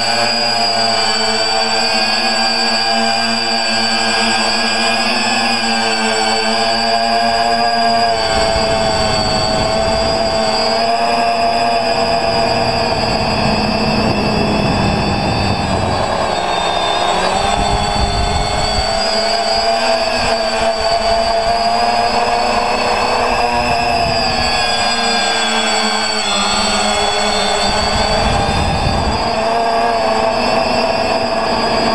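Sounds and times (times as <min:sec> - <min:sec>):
drone propellers whining: 0:00.0 - 0:31.9
rushing wind noise: 0:00.0 - 0:31.9.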